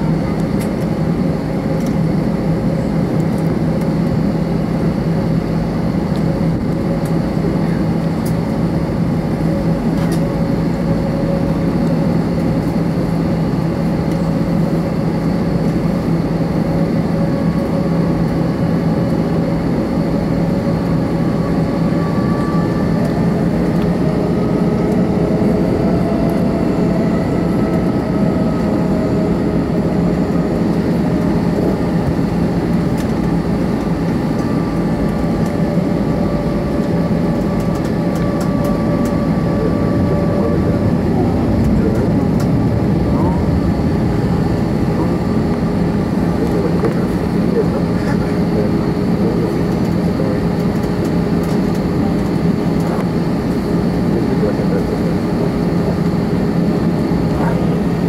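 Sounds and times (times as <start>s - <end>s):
jet engine rumble and whine: 0.0s - 58.0s
low hum: 0.0s - 58.0s.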